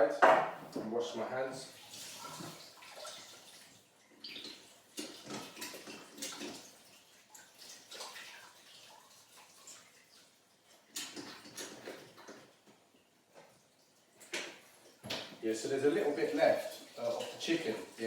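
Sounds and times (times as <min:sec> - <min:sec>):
tap water splashing into sink: 0:01.6 - 0:12.8, 0:14.2 - 0:18.0.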